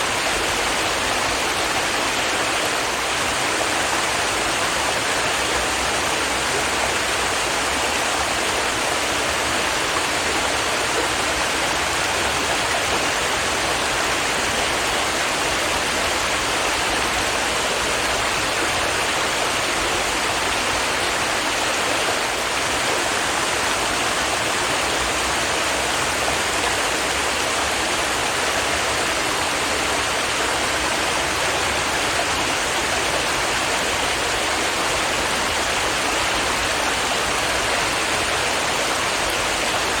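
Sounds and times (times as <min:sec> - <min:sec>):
stream water babbling over rocks: 0:00.0 - 0:40.0.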